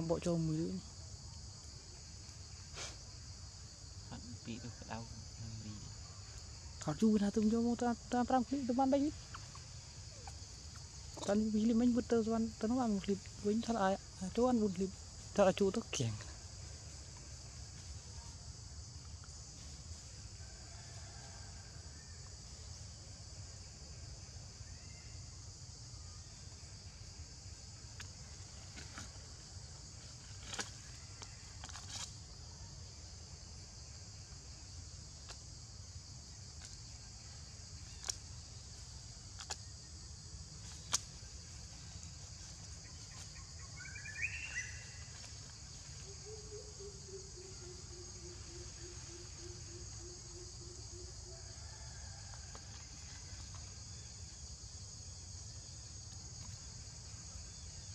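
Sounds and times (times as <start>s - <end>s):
chorus of insects: 0.0s - 57.9s.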